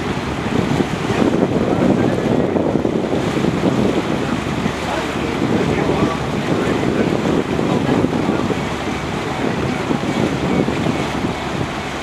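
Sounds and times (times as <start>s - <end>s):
boat and water noise: 0.0s - 12.0s
wind buffeting microphone: 0.0s - 12.0s.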